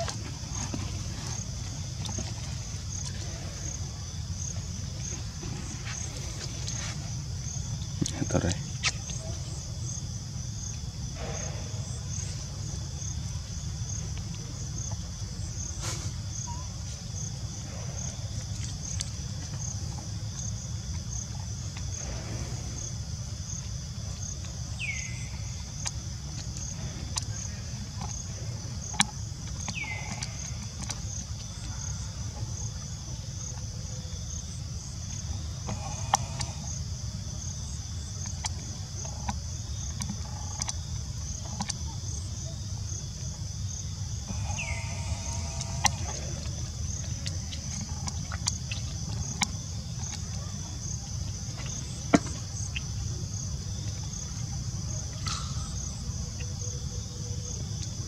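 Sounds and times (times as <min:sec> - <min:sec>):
insects buzzing: 0:00.0 - 0:58.0
low steady rumble: 0:00.0 - 0:58.0.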